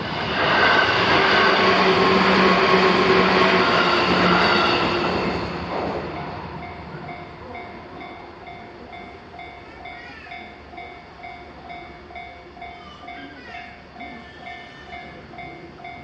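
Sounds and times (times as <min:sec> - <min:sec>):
crossing warning bell ringing: 0:00.0 - 0:16.0
train running noise: 0:00.0 - 0:16.0.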